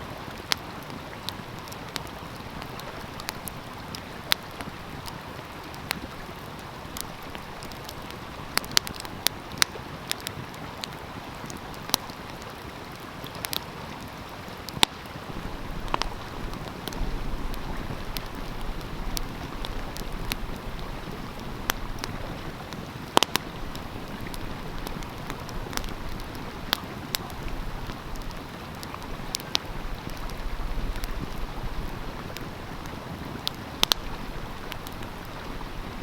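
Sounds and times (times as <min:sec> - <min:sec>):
stream rushing: 0:00.0 - 0:36.0
wood fire crackling: 0:00.0 - 0:36.0.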